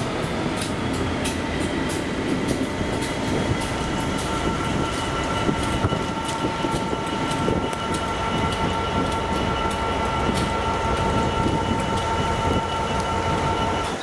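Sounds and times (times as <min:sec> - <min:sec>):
train rumble: 0:00.0 - 0:14.0
train wheels clicking over rail joints: 0:00.0 - 0:14.0.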